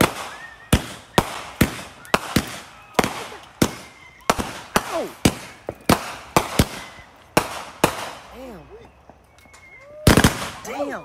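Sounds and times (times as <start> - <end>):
fireworks bangs: 0.0 - 8.7, 9.8 - 11.0.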